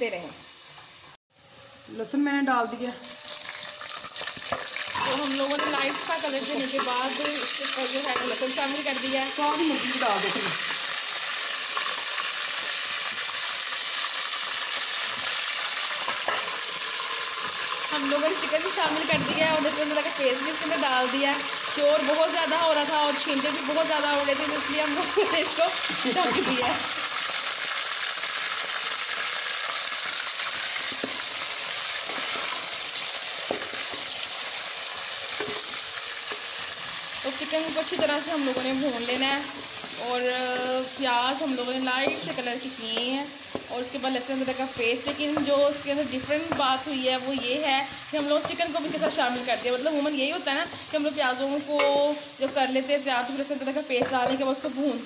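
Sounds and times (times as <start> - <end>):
onions frying in oil: 0.0 - 55.0.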